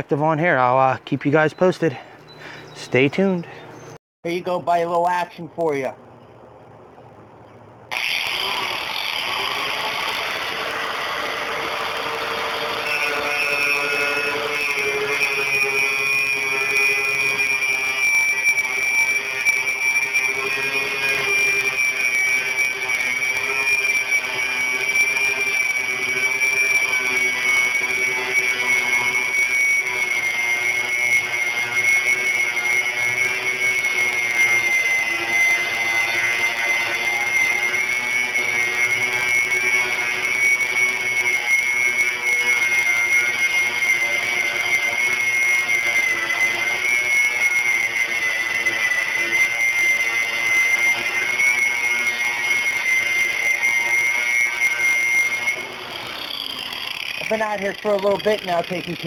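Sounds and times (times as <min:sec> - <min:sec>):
electric grinder whining: 0:07.9 - 0:59.0.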